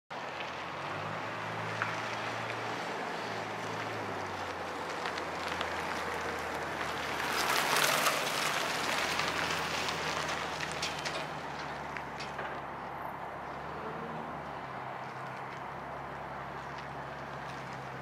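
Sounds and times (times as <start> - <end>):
truck engine hum: 0.1 - 18.0.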